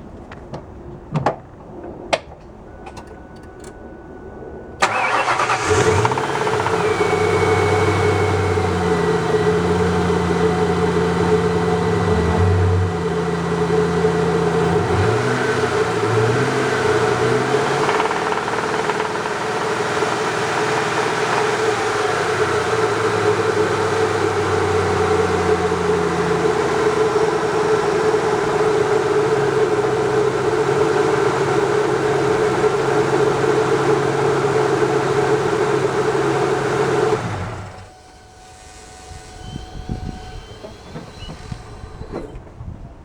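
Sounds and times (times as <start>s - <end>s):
car engine running with whine: 0.0s - 43.0s.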